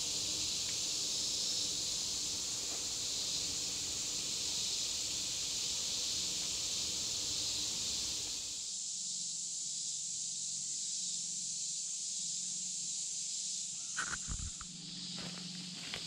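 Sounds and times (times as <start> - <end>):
insects chorus drone: 0.0 - 16.0.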